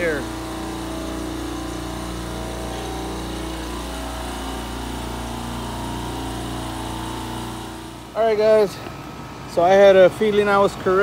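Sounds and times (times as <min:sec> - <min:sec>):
refrigeration compressor humming: 0:00.0 - 0:11.0.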